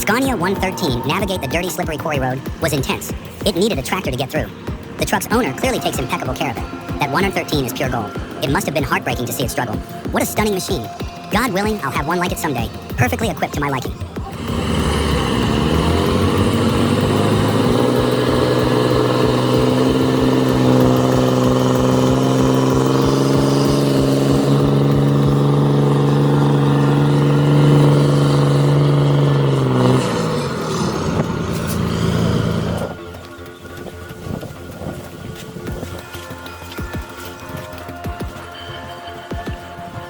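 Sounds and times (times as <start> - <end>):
heavy truck engine revving: 0.0 - 35.2.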